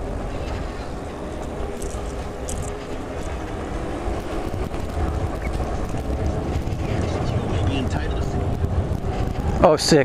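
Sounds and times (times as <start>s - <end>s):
road and tyre noise: 0.0s - 10.0s
wind rumbling on microphone: 0.0s - 10.0s.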